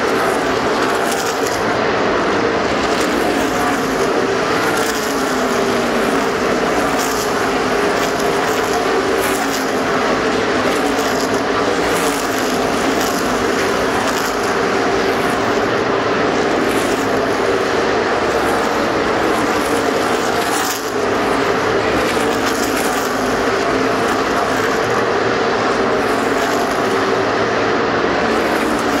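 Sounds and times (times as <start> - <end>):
race car engines droning: 0.0 - 29.0
race cars passing: 0.0 - 29.0.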